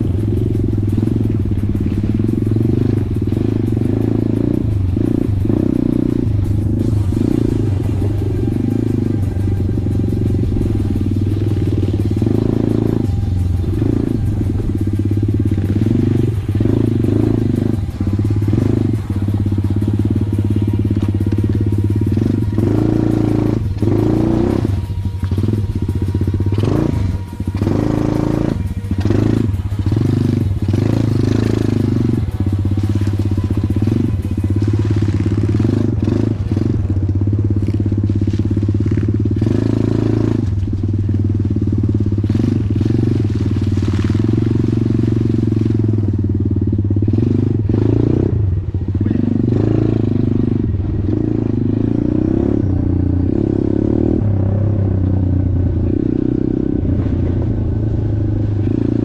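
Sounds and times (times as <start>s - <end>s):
background music: 0.0s - 59.0s
motorcycle engines revving: 0.0s - 59.0s.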